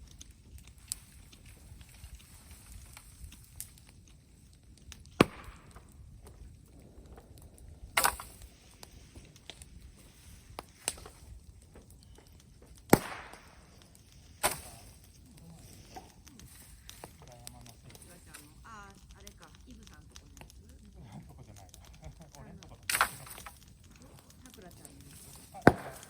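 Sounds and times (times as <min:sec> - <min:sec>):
wood cracking in bonfire: 0:00.0 - 0:26.0.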